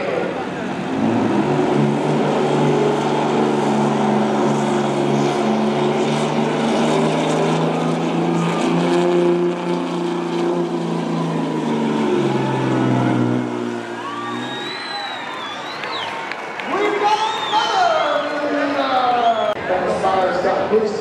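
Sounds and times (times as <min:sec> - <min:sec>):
truck engine at high revs: 0:00.0 - 0:19.4.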